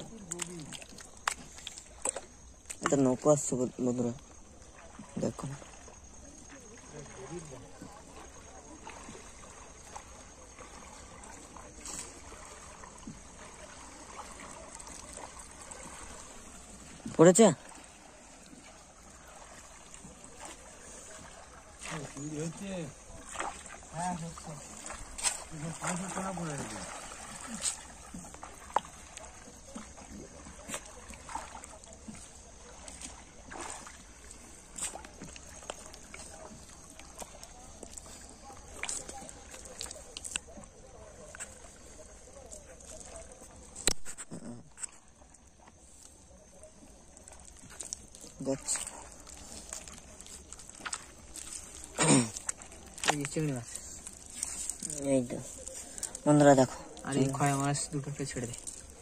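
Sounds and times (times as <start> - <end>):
river water trickling and lapping: 0.0 - 59.0.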